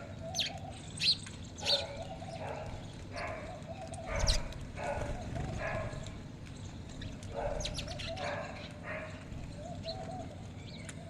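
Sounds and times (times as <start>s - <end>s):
birds wavering low calls: 0.0s - 11.0s.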